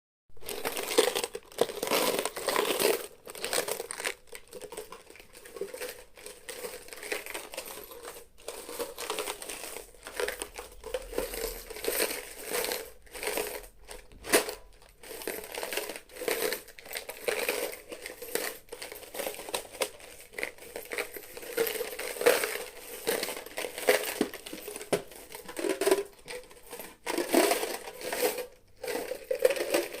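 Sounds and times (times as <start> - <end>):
coins jingling and clinking: 4.7 - 30.0.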